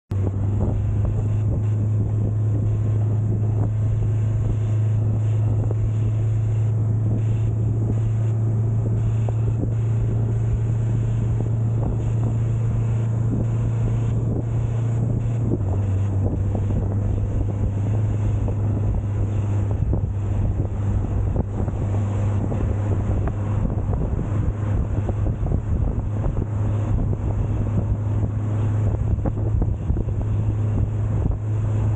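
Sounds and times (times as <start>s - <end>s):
truck diesel engine droning: 0.1s - 31.9s
wind noise: 0.1s - 31.9s.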